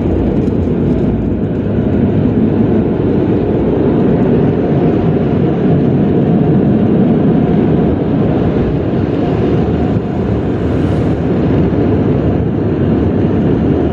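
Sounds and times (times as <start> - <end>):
automatic car wash noise: 0.0 - 13.9.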